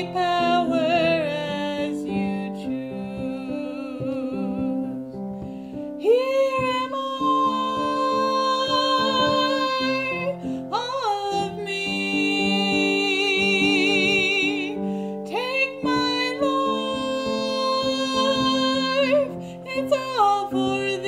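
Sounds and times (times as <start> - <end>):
person singing long notes: 0.0 - 21.0
piano chords: 0.0 - 21.0.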